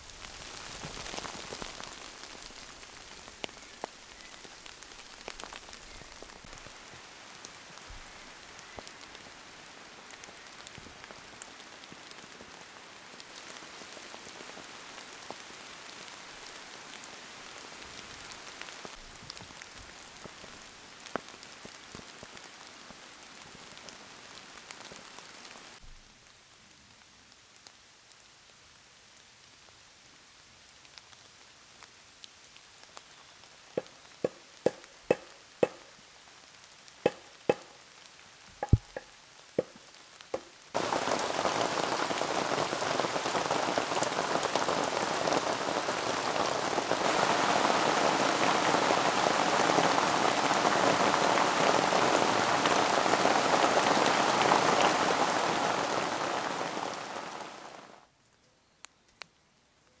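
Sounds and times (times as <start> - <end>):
raindrops dripping: 0.0 - 26.0, 30.8 - 57.9
heavy rain in a forest: 0.0 - 60.0.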